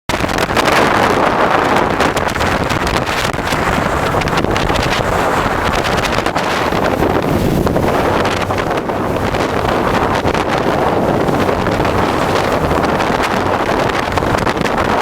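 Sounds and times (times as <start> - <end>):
jet boat engine and water rush: 0.1 - 15.0
wind buffeting microphone: 0.1 - 15.0.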